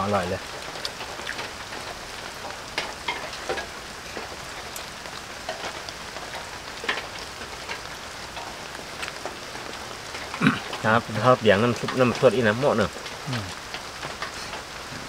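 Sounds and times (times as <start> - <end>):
rain clicks and taps: 0.0 - 15.0
steady rain: 0.0 - 15.0.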